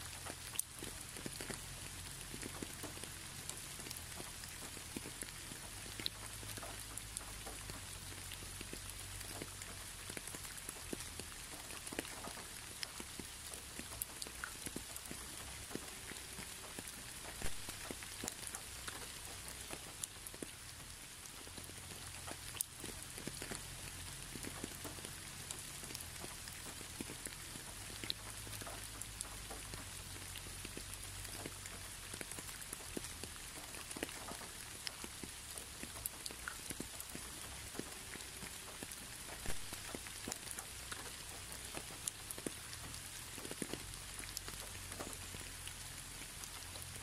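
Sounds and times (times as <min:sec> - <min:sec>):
rain drop ticks: 0:00.0 - 0:47.0
steady rain: 0:00.0 - 0:47.0.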